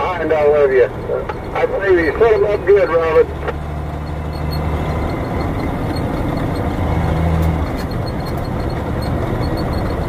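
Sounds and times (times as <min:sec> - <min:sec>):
road noise: 0:00.0 - 0:10.0
truck diesel engine drone: 0:00.0 - 0:10.0.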